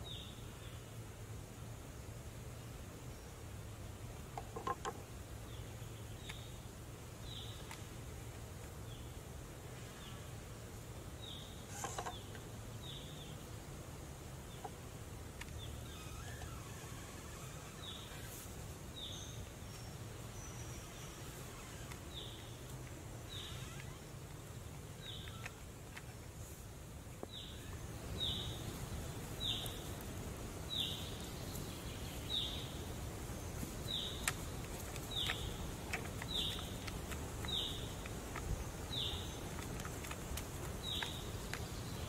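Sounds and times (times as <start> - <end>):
low outdoor background: 0.0 - 42.0.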